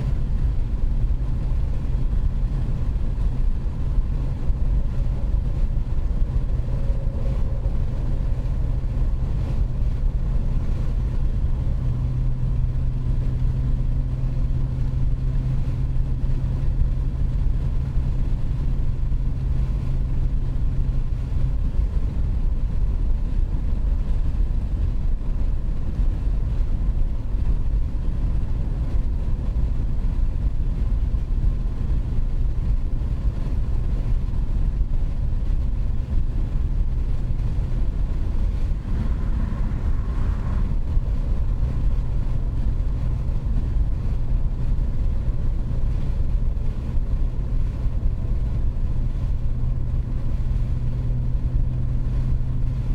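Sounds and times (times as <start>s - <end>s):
car exhaust drone: 0.0s - 52.9s
road and tyre rumble: 0.0s - 52.9s.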